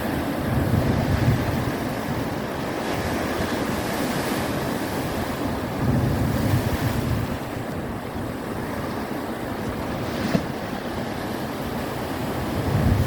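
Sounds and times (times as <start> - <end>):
ocean waves breaking on shore: 0.0 - 13.0
wind buffeting microphone: 0.0 - 13.0.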